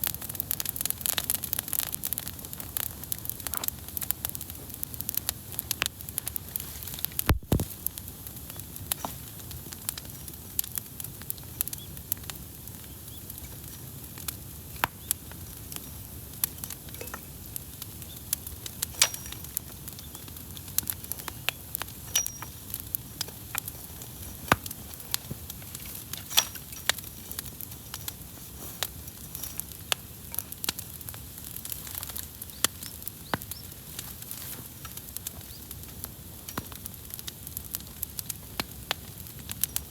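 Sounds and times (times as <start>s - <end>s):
burning wood crackles and pops: 0.0s - 39.9s
campfire hissing: 0.0s - 39.9s.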